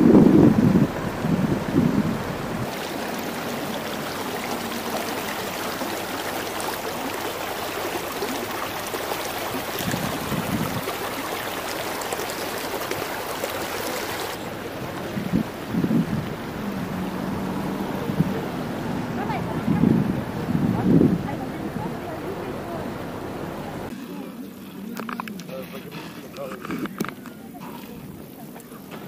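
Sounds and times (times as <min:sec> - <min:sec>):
flowing water rushing: 0:00.0 - 0:25.7.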